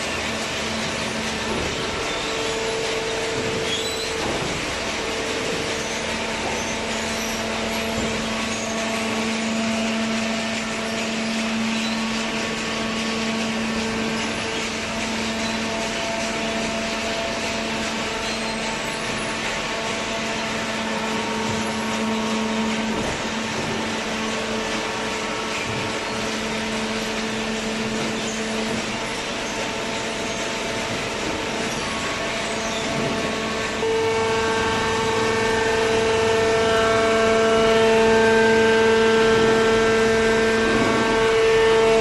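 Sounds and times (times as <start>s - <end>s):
motor and pump humming: 0.0s - 42.0s.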